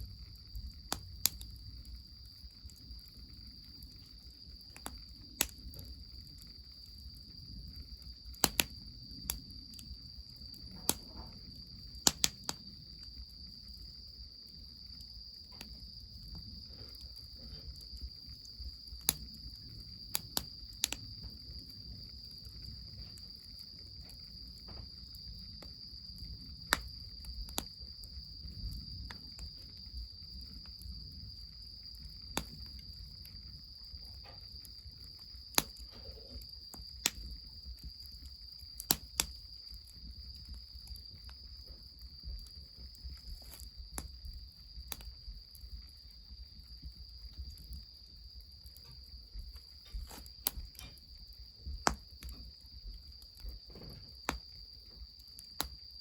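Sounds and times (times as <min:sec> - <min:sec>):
insects chirring: 0:00.0 - 0:56.0
wood fire crackling: 0:00.0 - 0:56.0.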